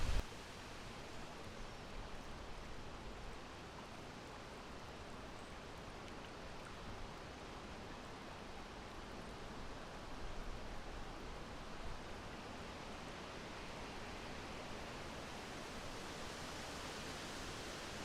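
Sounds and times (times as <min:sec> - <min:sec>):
soft steady breeze: 0:00.0 - 0:18.0.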